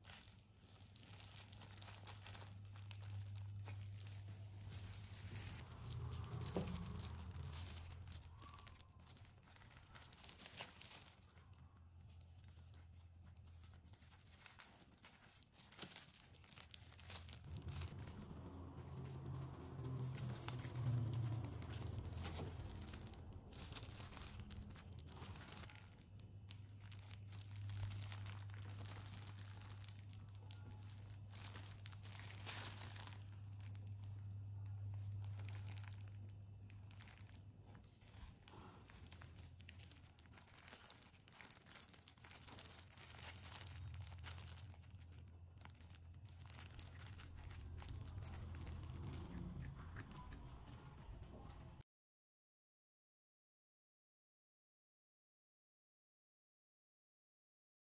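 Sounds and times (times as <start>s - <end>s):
crinkling and tearing: 0.0s - 50.4s
low steady hum: 0.0s - 51.8s.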